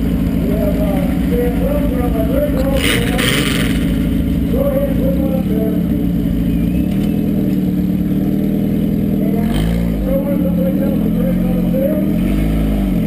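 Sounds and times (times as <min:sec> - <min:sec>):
loud engine running: 0:00.0 - 0:13.0.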